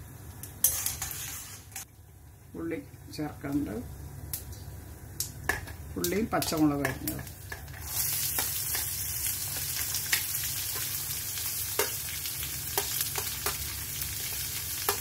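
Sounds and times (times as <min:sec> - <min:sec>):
food sizzling in hot oil: 0:00.0 - 0:02.4, 0:03.5 - 0:15.0.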